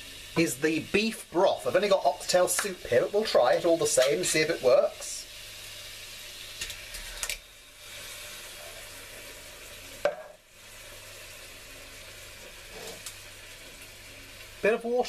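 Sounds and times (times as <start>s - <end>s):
beef sizzling in a pot: 0.0s - 15.0s.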